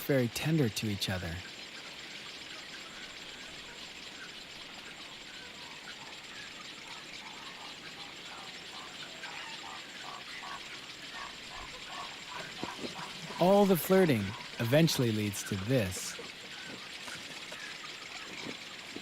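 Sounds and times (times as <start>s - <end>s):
steady high-pitched hiss: 0.0s - 19.0s.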